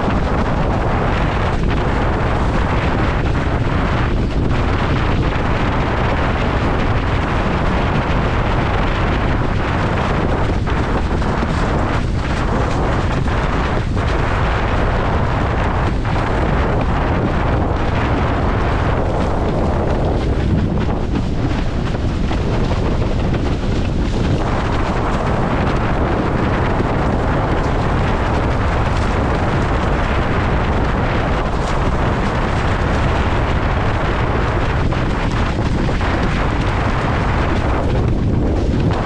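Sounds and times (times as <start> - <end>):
water rushing under board: 0.0 - 39.0
wind buffeting microphone: 0.0 - 39.0.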